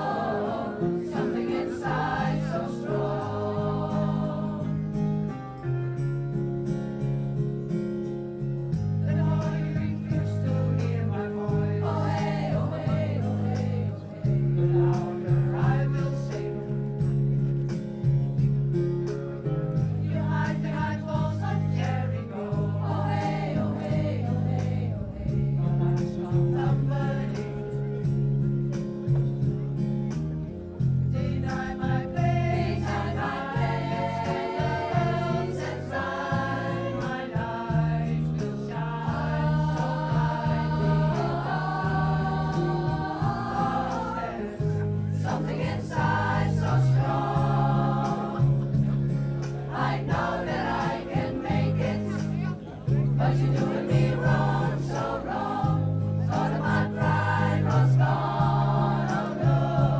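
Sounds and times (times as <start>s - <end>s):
female pop choir singing: 0.0s - 5.1s, 9.0s - 17.0s, 19.8s - 27.8s, 31.0s - 59.9s
amplified accompaniment with bass line: 0.0s - 59.9s.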